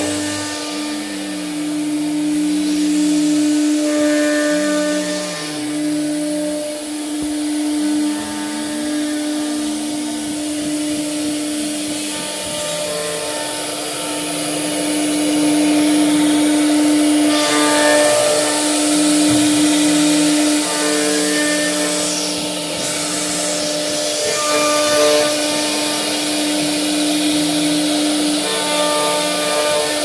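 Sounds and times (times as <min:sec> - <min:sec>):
cnc router cutting wood: 0:00.0 - 0:30.0.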